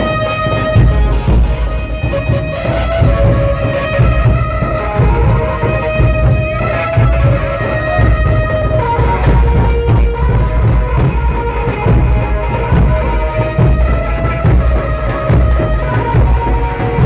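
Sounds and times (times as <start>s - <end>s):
barrel drums beaten hard: 0.0s - 17.0s
held melodic line: 0.0s - 17.0s.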